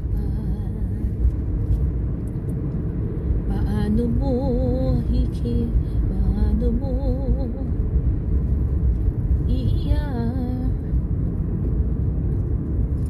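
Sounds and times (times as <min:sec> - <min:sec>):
car driving on wet road: 0:00.0 - 0:13.0.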